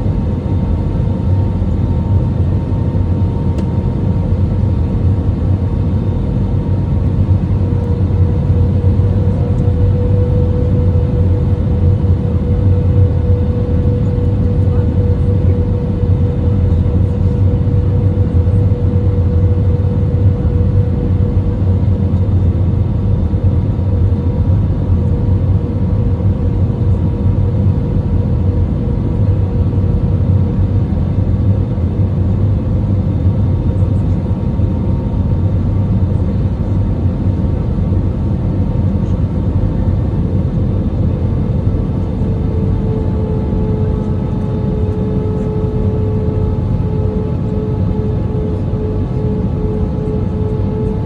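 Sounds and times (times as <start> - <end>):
airliner cabin rumble: 0.0 - 51.0.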